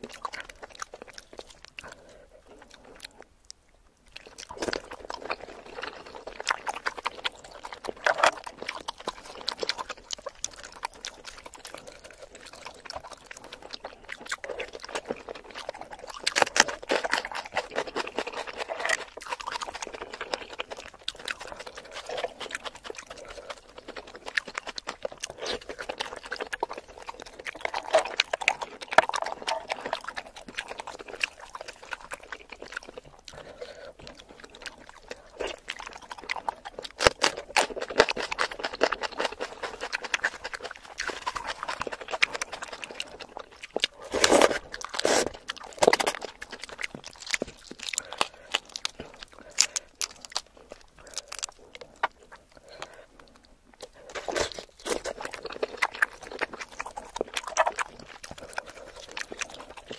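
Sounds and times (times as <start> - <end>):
close chewing and biting: 0.0 - 59.9.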